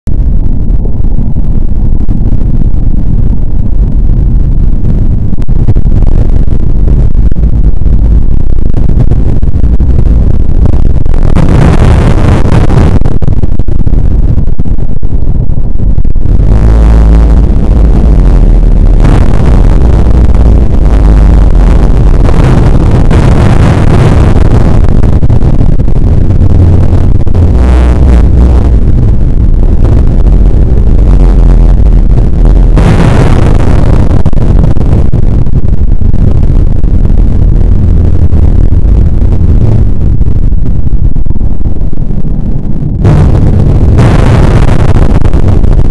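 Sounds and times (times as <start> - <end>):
slowed bass-boosted soundtrack rumble: 0.0 - 45.9.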